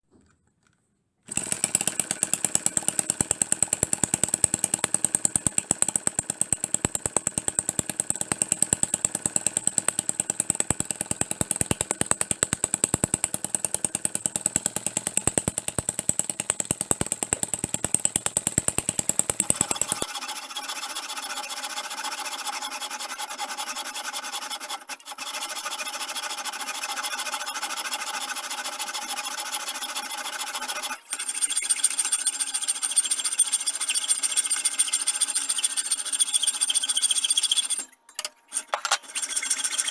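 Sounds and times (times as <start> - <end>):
miniature engine running: 1.3 - 22.4, 25.2 - 37.8.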